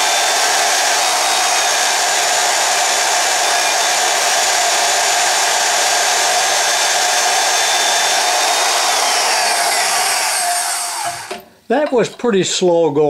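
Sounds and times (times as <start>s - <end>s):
band saw cutting metal: 0.0s - 11.4s.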